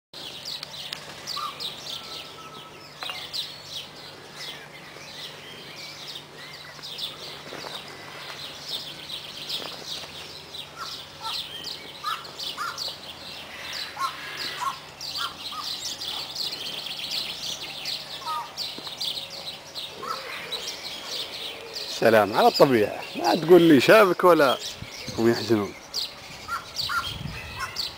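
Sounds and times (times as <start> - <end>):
small birds chirping: 0.2 - 27.9.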